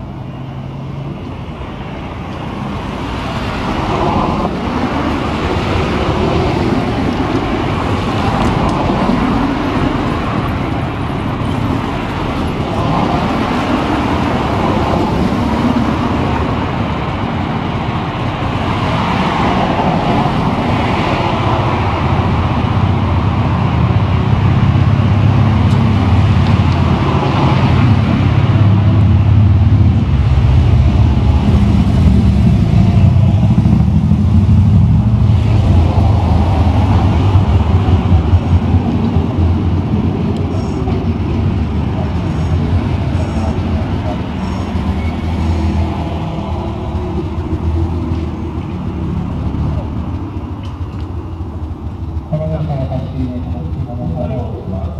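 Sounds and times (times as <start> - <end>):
cars passing: 0.0 - 54.9.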